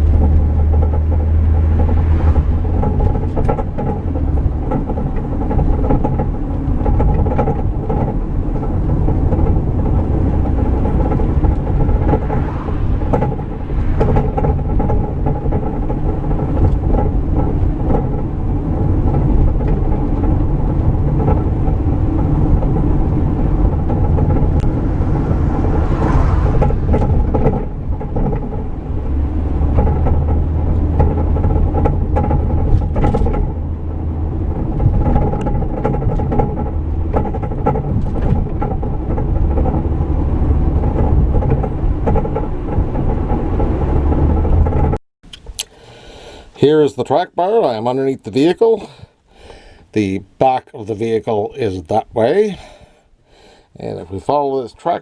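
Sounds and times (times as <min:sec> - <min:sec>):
axle clunks and rattles: 0:00.0 - 0:55.0
road and engine rumble: 0:00.0 - 0:55.0.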